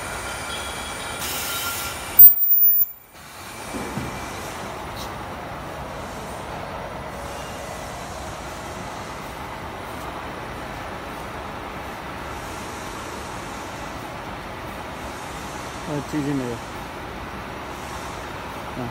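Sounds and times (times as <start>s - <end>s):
workshop machinery rumble and hiss: 0.0s - 18.9s.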